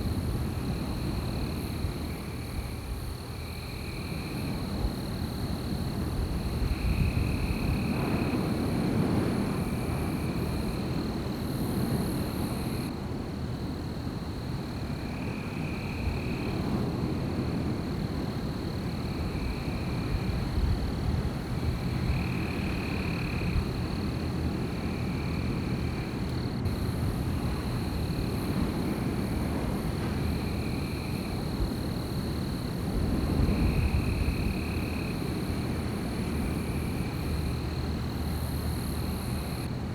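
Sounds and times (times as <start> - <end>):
wind rushing through forest: 0.0 - 39.9.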